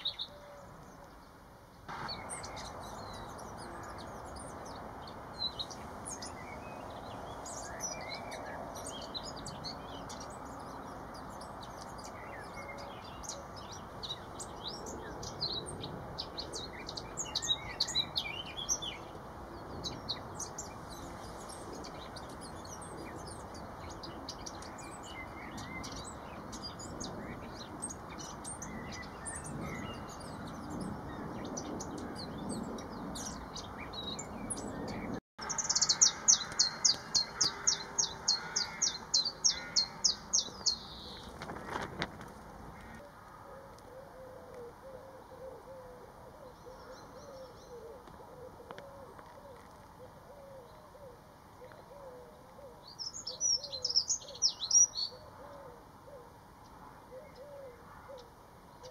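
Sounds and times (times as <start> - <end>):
bird warbling song: 0.0 - 42.1, 43.9 - 56.2
small birds chirping: 0.0 - 43.0, 46.4 - 55.4.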